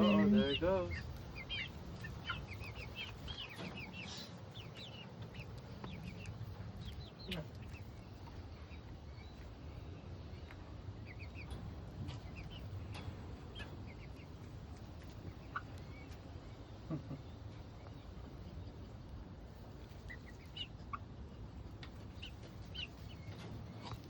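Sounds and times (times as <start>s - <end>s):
chickens chirping: 0.0s - 24.0s.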